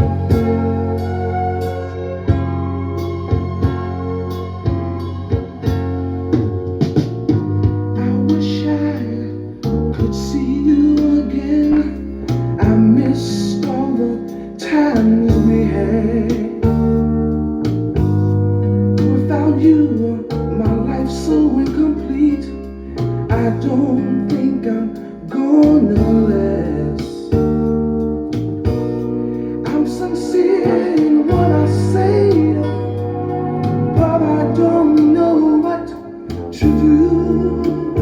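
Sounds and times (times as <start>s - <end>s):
song with guitar and bass: 0.0s - 38.0s.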